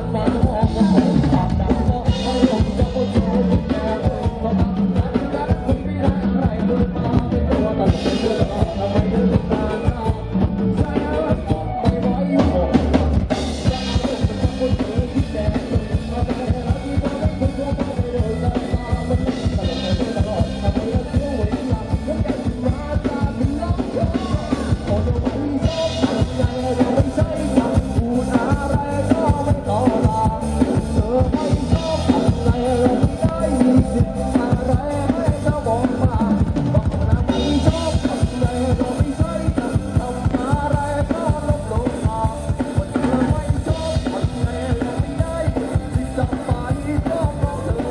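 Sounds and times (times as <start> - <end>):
live band music over speakers: 0.0 - 47.9
man singing: 0.0 - 47.9.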